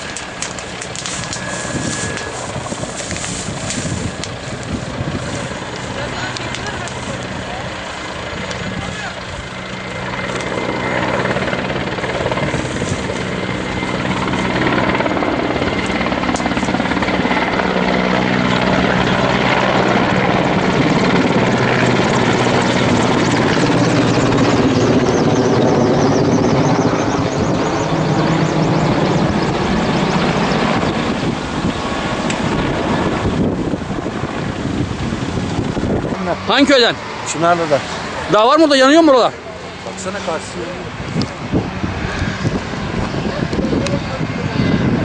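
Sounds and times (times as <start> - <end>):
helicopter rotor and engine hum: 0.0 - 45.0.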